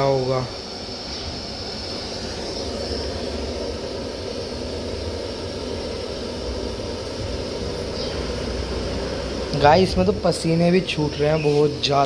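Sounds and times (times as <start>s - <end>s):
gas burner rushing: 0.0s - 12.0s.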